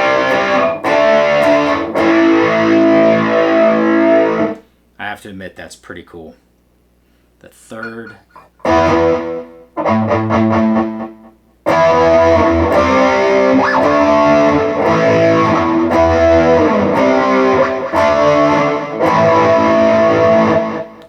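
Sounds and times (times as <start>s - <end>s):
electric guitar playing: 0.0s - 4.6s, 8.6s - 21.0s.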